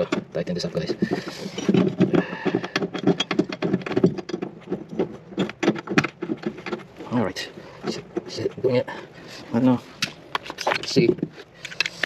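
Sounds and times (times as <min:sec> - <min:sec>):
metal hardware clicking and rattling: 0:00.0 - 0:08.8, 0:10.0 - 0:12.0.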